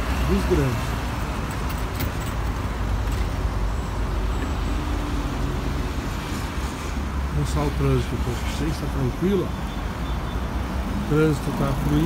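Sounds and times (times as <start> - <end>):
vehicles driving past: 0.0 - 12.0.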